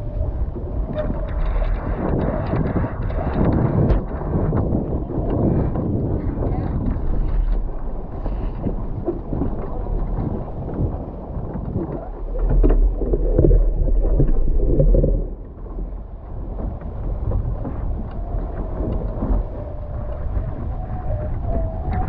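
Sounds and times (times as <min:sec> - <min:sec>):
water rushing off hulls: 0:00.0 - 0:22.0
wind buffeting microphone: 0:00.0 - 0:22.0.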